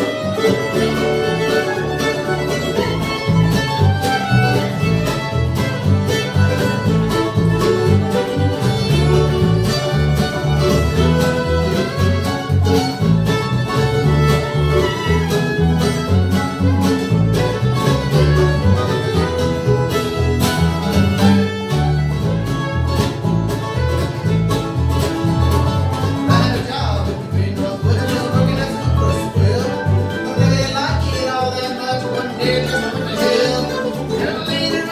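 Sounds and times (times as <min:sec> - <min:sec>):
bluegrass band playing: 0:00.0 - 0:34.9
plucked upright bass: 0:00.0 - 0:34.9.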